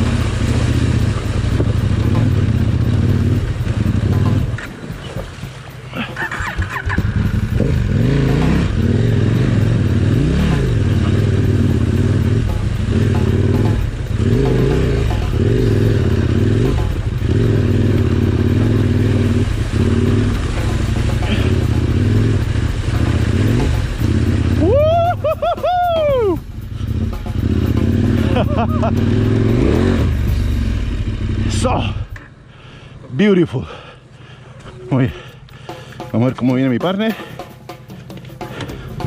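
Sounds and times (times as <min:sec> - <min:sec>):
motorcycle engine revving: 0:00.0 - 0:32.5.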